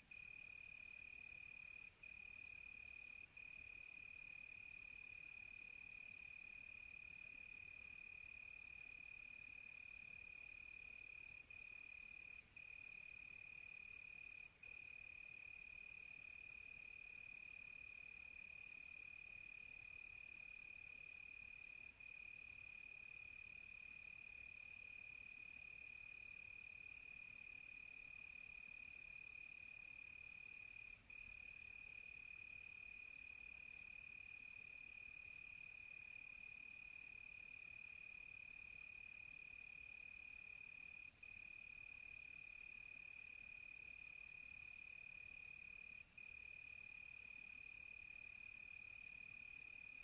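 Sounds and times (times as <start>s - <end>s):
faint high insect hiss: 0.0s - 50.0s.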